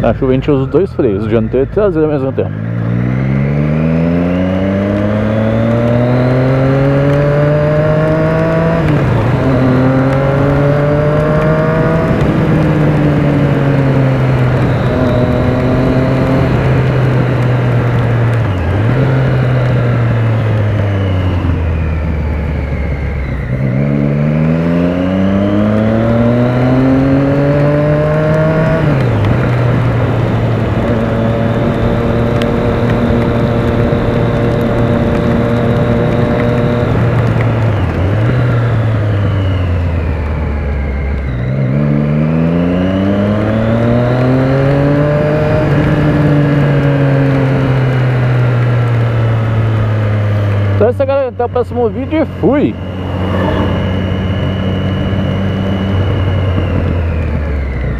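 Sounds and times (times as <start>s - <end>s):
motorcycle engine revving through gears: 0.0s - 57.9s
wind: 0.0s - 57.9s.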